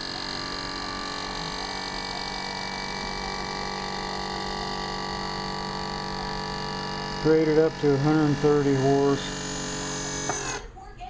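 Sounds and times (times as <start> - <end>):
electric motor and pump humming: 0.0 - 11.0.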